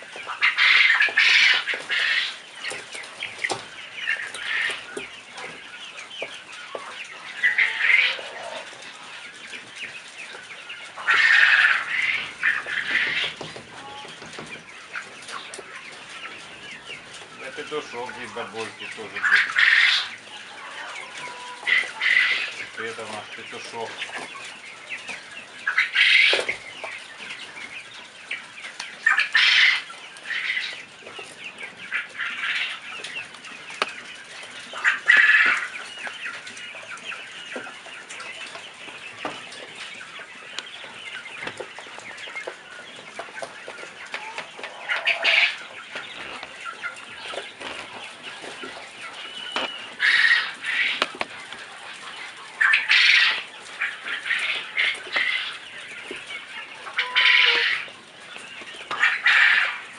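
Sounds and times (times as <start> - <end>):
chickens clucking and peeping: 0.0 - 59.9.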